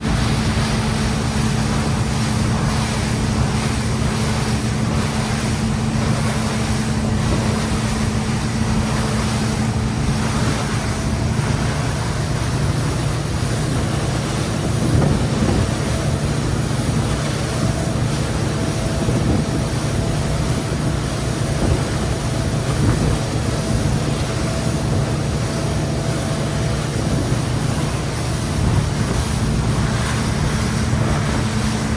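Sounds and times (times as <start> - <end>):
boat motor running: 0.0 - 31.9.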